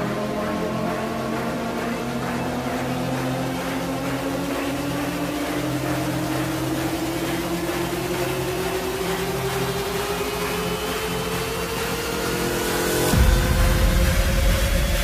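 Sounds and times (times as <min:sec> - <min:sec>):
trance music: 0:00.0 - 0:15.0.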